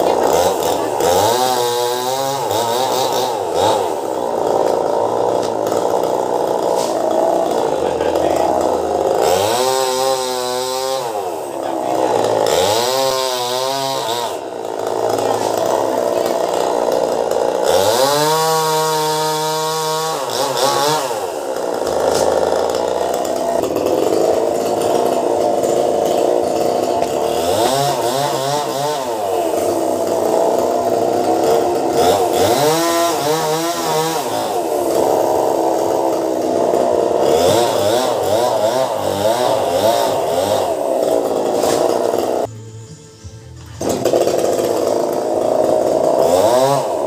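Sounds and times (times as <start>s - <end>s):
chainsaw revving and idling: 0.0s - 47.0s.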